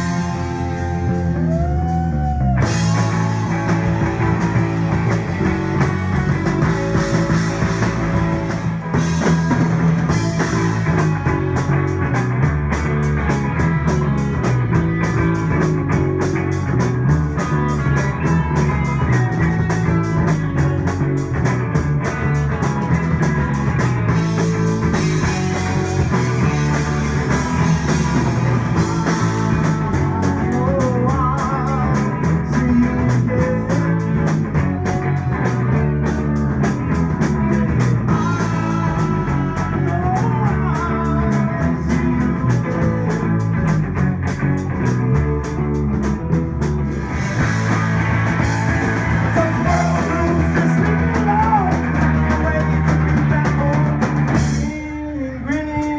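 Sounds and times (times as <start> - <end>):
bass guitar: 0.0 - 55.9
drum kit with cymbals: 0.0 - 55.9
electric guitars: 0.0 - 55.9.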